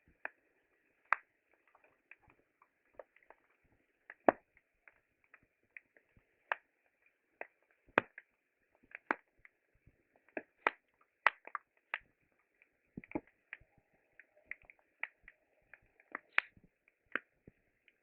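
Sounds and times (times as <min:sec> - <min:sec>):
campfire crackling and popping: 0:00.1 - 0:18.0.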